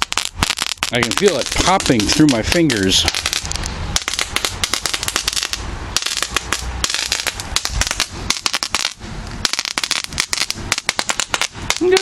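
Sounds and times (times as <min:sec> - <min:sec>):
firework popping and crackling: 0:00.0 - 0:12.0
scraping hiss: 0:00.0 - 0:12.0.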